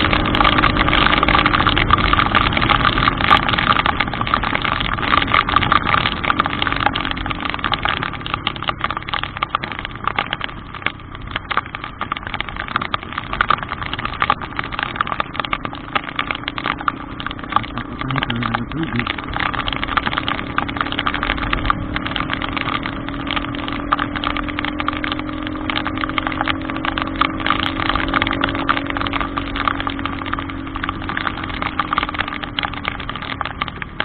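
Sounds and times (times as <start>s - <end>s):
car engine hum: 0.0s - 34.0s
heavy rain: 0.0s - 34.0s.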